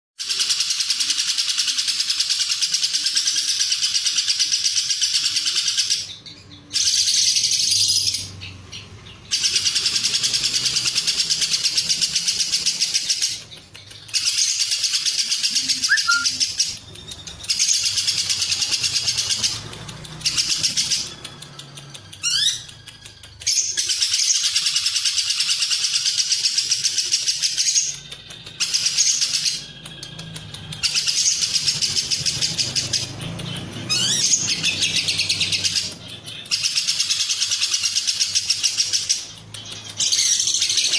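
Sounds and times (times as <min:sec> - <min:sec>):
lovebird chattering trills: 0:00.2 - 0:40.9.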